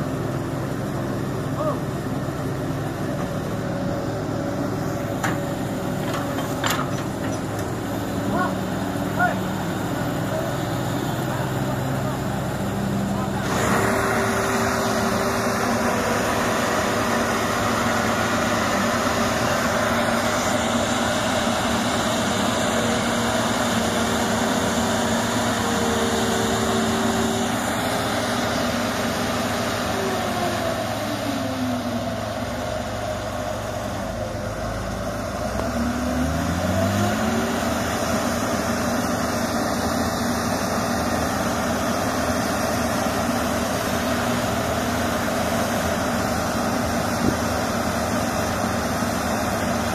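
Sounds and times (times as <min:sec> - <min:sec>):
diesel engines running: 0:00.0 - 0:49.9
engine slowing and revving: 0:09.6 - 0:49.9.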